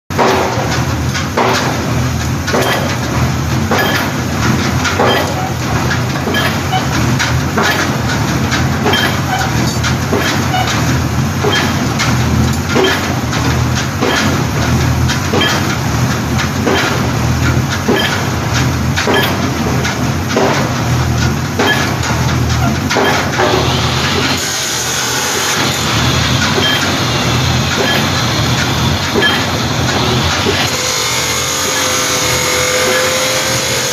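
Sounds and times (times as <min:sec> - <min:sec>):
pile hammer blows: 0:00.1 - 0:33.9
rig engine running: 0:00.1 - 0:33.9.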